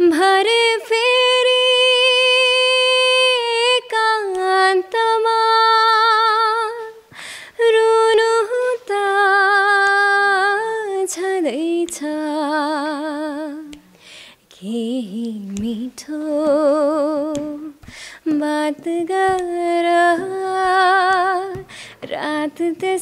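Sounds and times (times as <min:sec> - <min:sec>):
woman singing unaccompanied: 0:00.0 - 0:13.8, 0:14.5 - 0:23.0.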